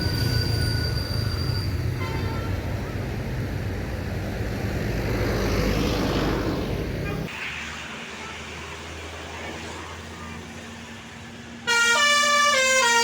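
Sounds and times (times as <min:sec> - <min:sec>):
bus engine rumbling: 0:00.0 - 0:13.0
road noise: 0:00.0 - 0:13.0.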